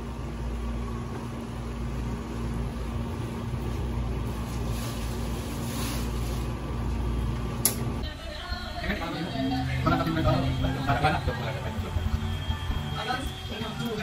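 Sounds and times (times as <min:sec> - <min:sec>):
faint constant hum: 0:00.0 - 0:14.0.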